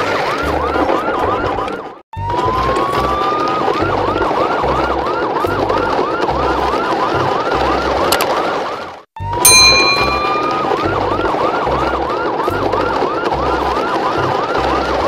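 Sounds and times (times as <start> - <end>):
emergency siren wailing and yelping: 0.0 - 9.0, 10.1 - 15.0.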